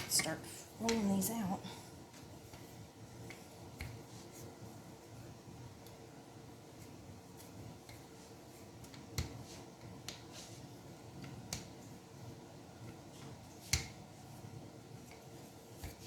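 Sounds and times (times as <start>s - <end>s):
rolling pin rolling dough: 0.0s - 1.4s, 2.0s - 16.0s.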